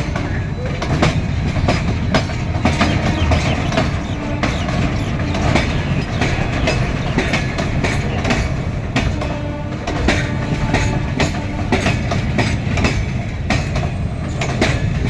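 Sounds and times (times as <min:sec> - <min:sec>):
train heavy rumble: 0:00.0 - 0:15.0
wheels clicking over rail joints: 0:00.0 - 0:15.0.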